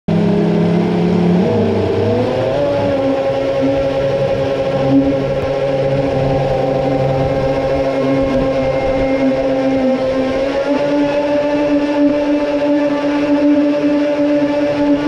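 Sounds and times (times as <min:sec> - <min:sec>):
water rushing past hull: 0:00.1 - 0:15.0
electric motors whining: 0:00.2 - 0:15.0.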